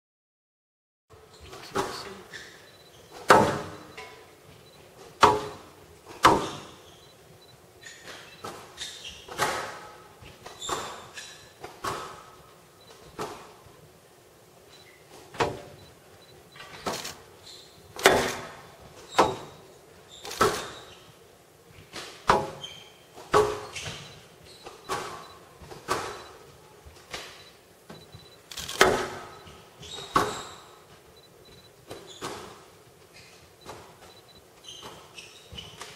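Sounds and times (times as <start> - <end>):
shoes squeaking on court floor: 1.3 - 5.7, 6.4 - 9.4, 10.2 - 13.5, 14.7 - 17.9, 18.8 - 21.2, 22.6 - 28.5, 29.3 - 35.9.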